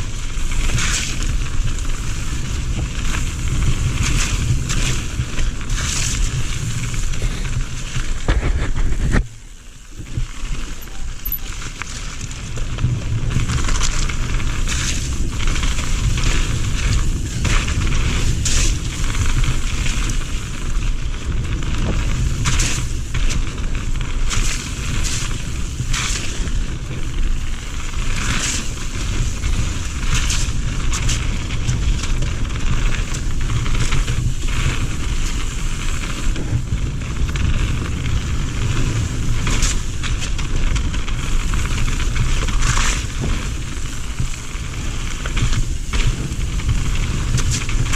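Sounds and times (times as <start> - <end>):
bike clattering over bumps: 0.0 - 47.9
bike tyres rumbling on dirt: 0.0 - 47.9
wind on microphone: 0.0 - 47.9.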